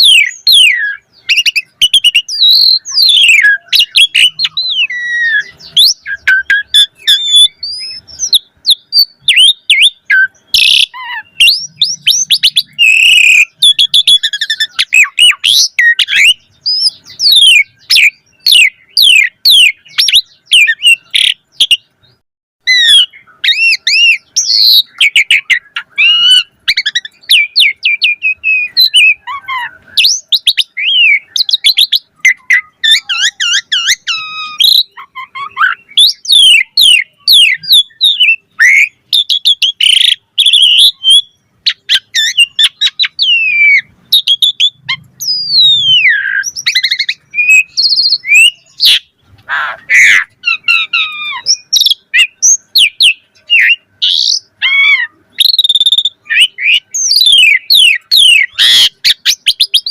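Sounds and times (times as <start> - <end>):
starling singing: 0.0 - 59.9.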